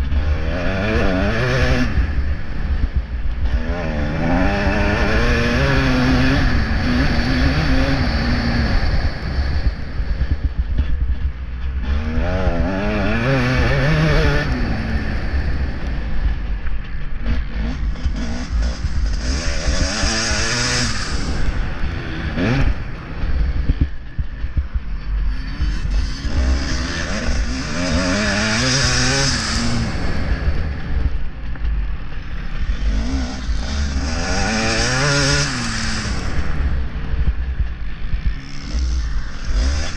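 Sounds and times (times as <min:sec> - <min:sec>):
motocross bike engine revving: 0:00.0 - 0:39.9
wind rumble on microphone: 0:00.0 - 0:39.9.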